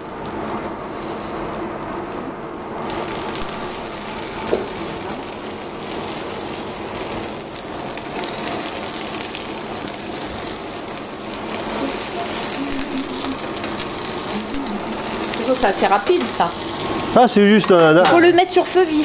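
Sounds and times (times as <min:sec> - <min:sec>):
vegetables sizzling in oil: 0:02.8 - 0:19.0.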